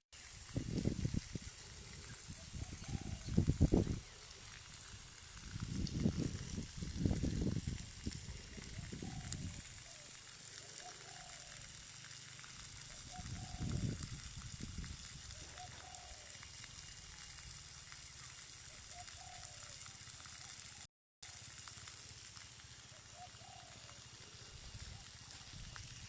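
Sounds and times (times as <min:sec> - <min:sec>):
rushing water hiss: 0:00.2 - 0:26.0.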